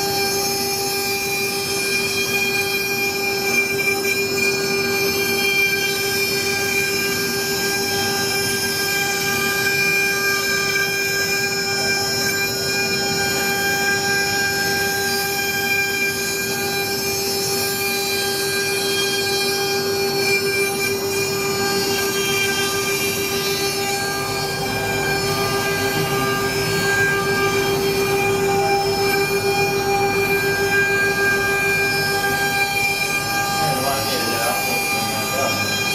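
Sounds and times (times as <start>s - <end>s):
router spindle whining: 0.0s - 35.9s.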